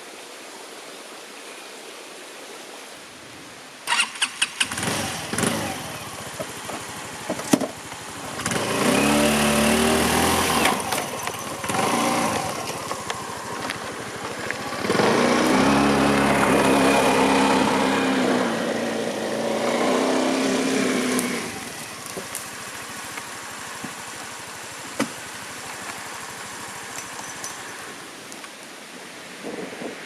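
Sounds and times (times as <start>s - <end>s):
steady hiss: 0.0s - 30.0s
scooter engine running: 3.9s - 28.2s.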